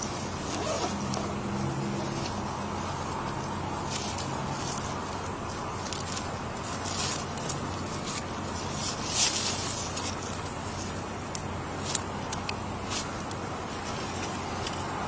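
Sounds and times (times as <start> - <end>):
scratchy rustling: 0.0 - 15.0.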